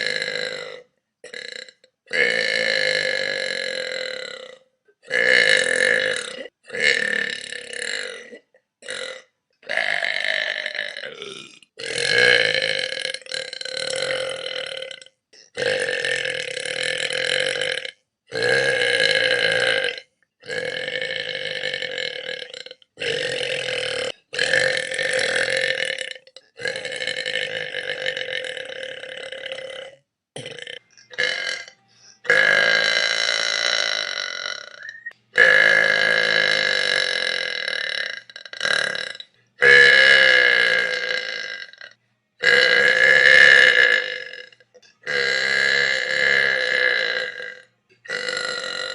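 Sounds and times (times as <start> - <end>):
person burping: 0.0 - 48.9.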